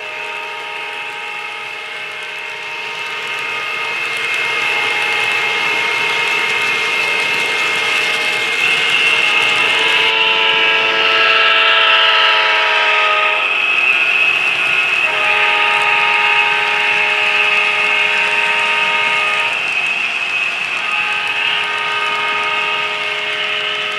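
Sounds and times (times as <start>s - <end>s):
locomotive horn: 0.0s - 13.6s, 15.0s - 19.8s, 20.8s - 23.9s
model train running: 0.0s - 23.9s.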